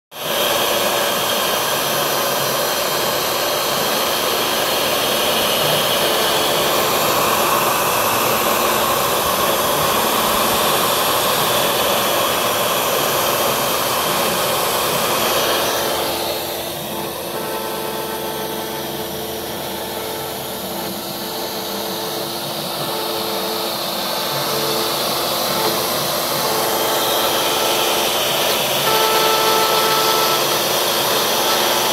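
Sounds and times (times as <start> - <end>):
router motor whine: 0.1 - 31.9.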